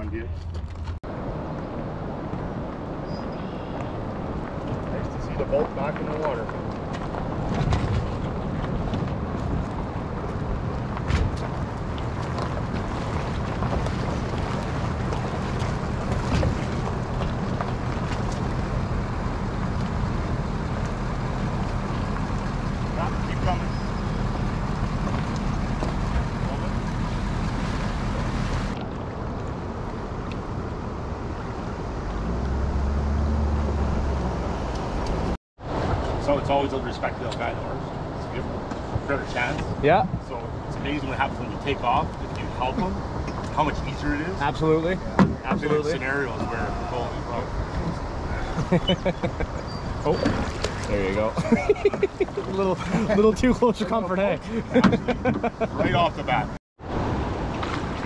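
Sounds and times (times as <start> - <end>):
river water moving: 0.0 - 36.6, 41.8 - 58.0.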